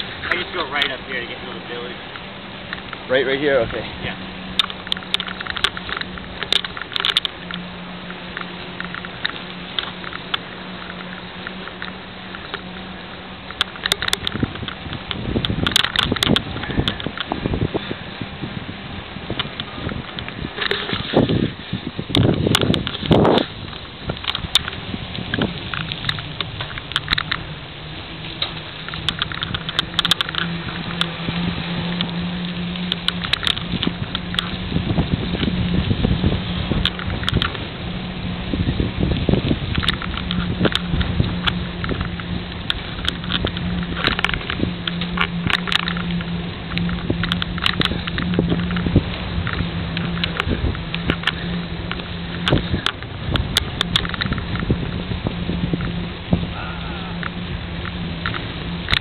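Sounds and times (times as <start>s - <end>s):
bicycle clicks and rattles: 0.0s - 18.5s, 19.2s - 59.0s
faint rolling noise: 0.0s - 59.0s
steady low hum: 0.0s - 59.0s.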